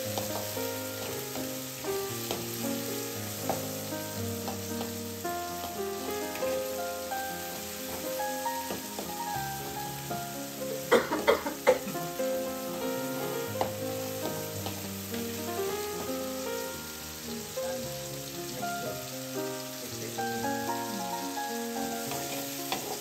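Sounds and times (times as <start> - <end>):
background music: 0.0 - 23.0
vegetables sizzling in oil: 0.0 - 23.0.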